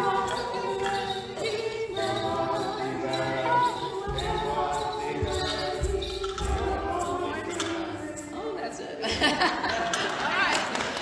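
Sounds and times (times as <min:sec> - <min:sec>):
choir singing: 0:00.0 - 0:09.7.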